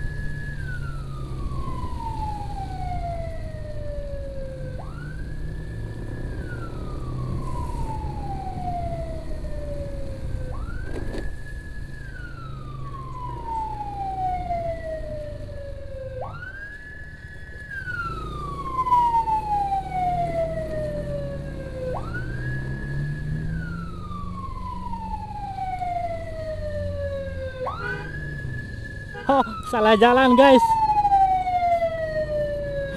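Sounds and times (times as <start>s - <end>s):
emergency siren wailing: 0.0s - 32.9s
wind and road noise: 0.0s - 32.9s.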